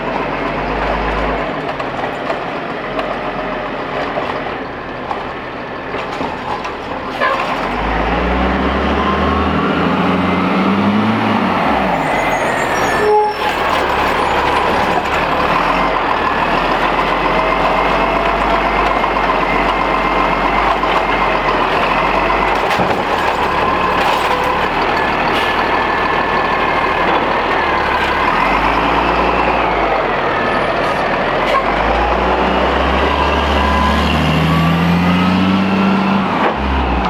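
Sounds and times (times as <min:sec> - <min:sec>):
garbage truck engine revving: 0:06.0 - 0:37.0.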